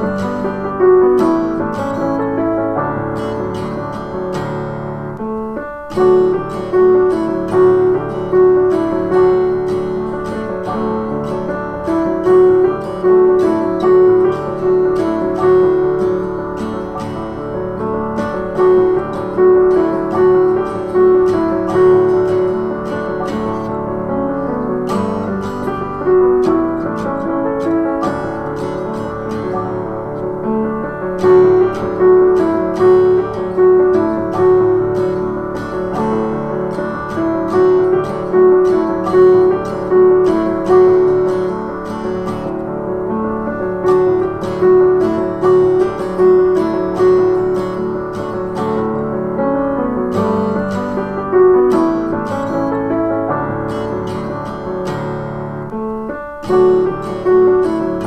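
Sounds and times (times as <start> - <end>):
guitar accompaniment: 0.0 - 58.0
slow piano: 0.0 - 58.0.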